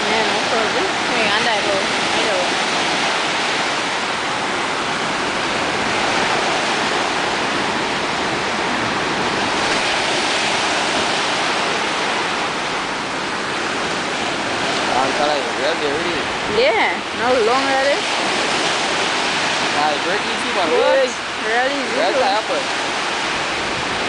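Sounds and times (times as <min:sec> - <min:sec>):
surf breaking and washing: 0:00.0 - 0:24.0.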